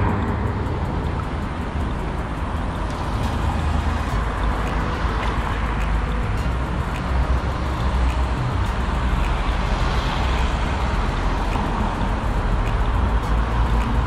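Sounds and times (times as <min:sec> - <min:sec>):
bicycle ride low rumble: 0:00.0 - 0:14.0
even hiss: 0:00.0 - 0:14.0.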